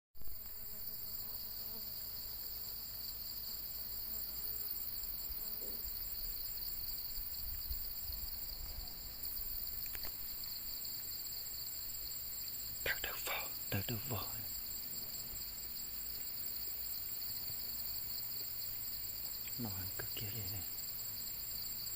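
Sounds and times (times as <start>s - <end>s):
crickets trilling: 0.2s - 21.9s.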